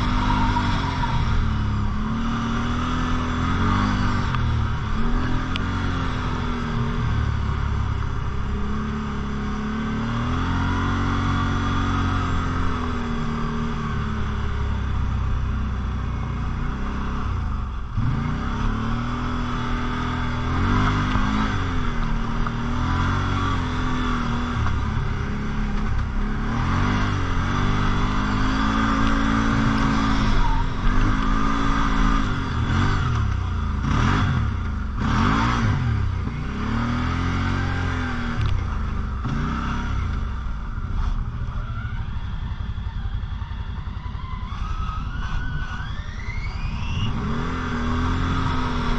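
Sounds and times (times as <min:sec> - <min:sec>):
quad bike engine revving: 0:00.0 - 0:48.9.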